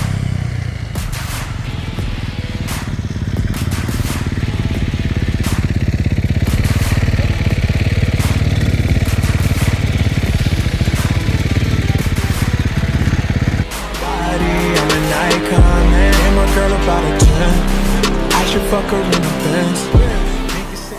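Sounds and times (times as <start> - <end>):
dirt bike engine running hard: 0.0 - 20.9.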